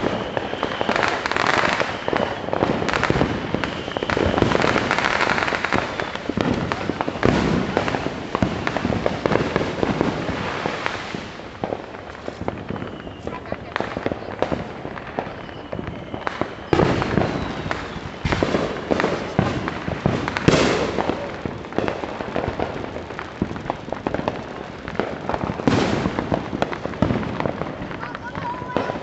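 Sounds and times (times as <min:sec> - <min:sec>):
firecracker pops crackling: 0:00.0 - 0:29.0
firework booms: 0:00.0 - 0:29.0.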